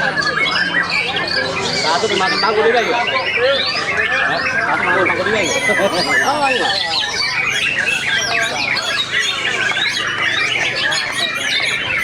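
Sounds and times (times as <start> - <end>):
many songbirds singing: 0.0 - 12.0.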